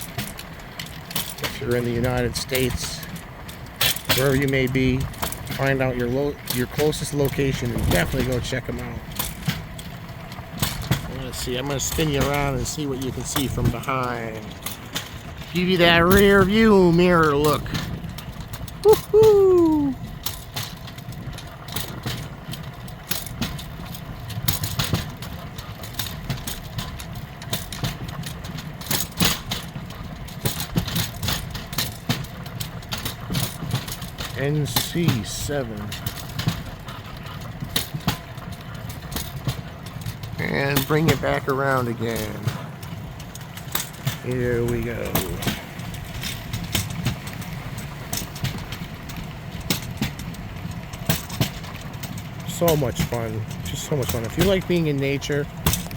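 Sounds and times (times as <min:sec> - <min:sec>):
steel wheels rumbling on track: 0:00.0 - 0:55.9
wheels clicking and clacking: 0:00.0 - 0:55.9.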